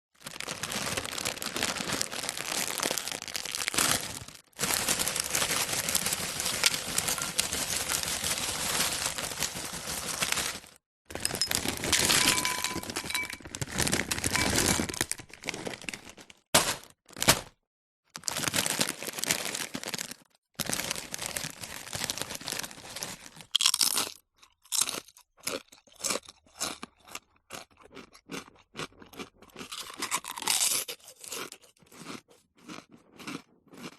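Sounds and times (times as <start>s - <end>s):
potato chips crunching: 0.2s - 16.4s, 18.2s - 33.9s.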